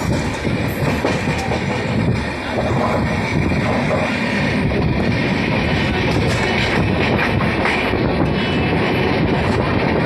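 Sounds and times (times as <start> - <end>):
train clattering: 0.0 - 10.0
train wheels rumbling on track: 0.0 - 10.0.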